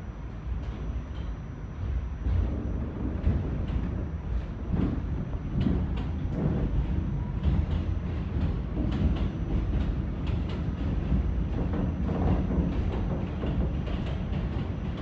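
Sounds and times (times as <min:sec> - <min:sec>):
passing train: 0:00.0 - 0:15.0
subway car low rumble: 0:00.0 - 0:15.0.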